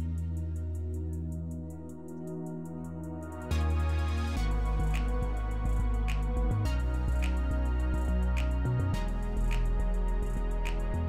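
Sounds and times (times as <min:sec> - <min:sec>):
low bass line: 0:00.0 - 0:11.0.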